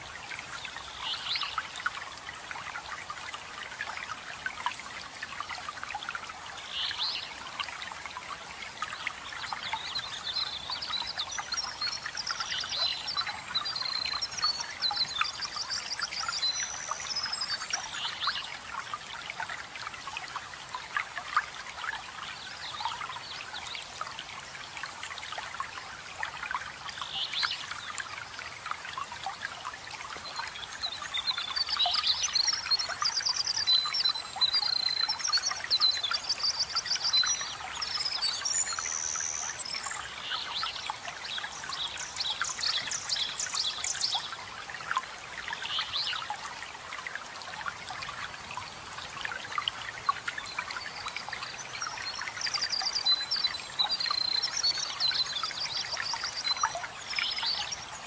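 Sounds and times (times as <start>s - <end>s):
water trickling and splashing: 0.0s - 58.0s
songbirds chirping: 0.3s - 46.9s.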